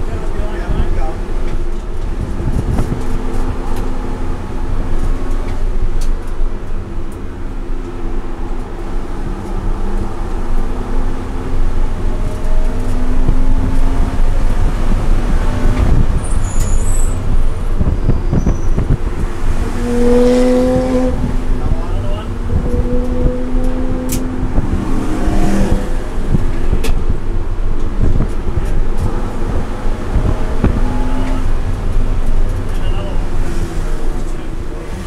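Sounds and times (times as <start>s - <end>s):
car engine pulling: 0.0s - 35.0s
tyre and wind noise: 0.0s - 35.0s.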